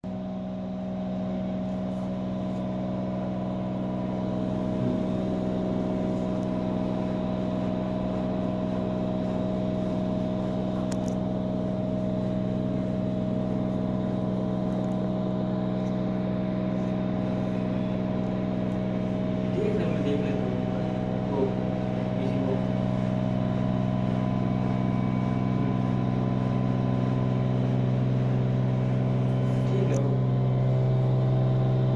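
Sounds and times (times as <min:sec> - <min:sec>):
washing machine motor humming: 0:00.0 - 0:31.9.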